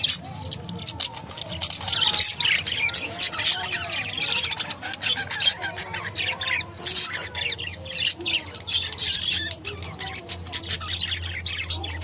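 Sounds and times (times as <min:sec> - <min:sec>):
budgerigars chattering: 0:00.0 - 0:12.0.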